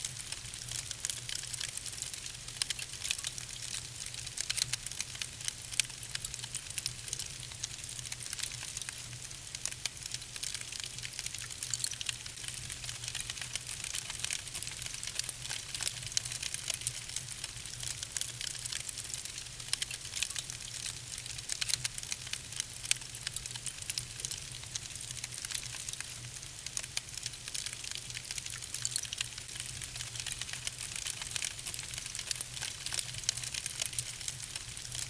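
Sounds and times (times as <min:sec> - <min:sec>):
wood fire crackling: 0:00.1 - 0:35.0.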